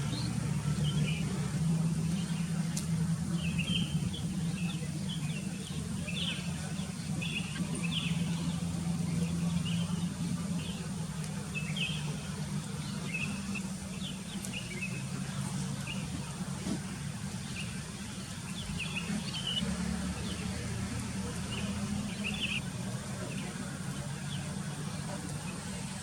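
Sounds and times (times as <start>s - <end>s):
birds chirping quickly: 0.0s - 26.0s.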